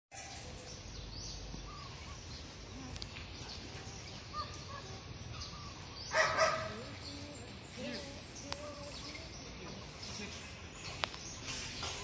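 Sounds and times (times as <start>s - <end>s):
outdoor background hiss: 0.1s - 12.0s.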